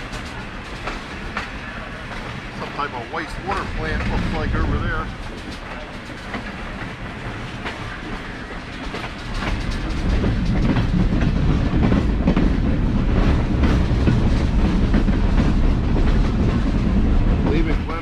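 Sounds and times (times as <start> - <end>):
train wheels clicking over rails: 0.0 - 18.0.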